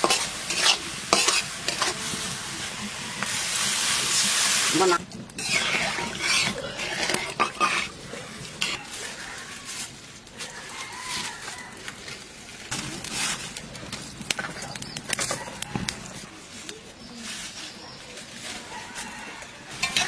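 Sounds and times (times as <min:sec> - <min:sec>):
twigs crackling in wood fire: 0:00.0 - 0:20.0.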